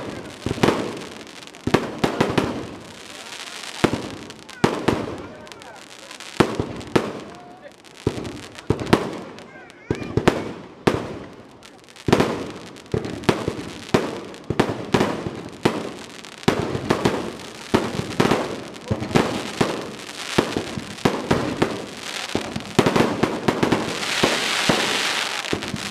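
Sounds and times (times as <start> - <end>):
fireworks bursting with bangs: 0.0 - 25.9.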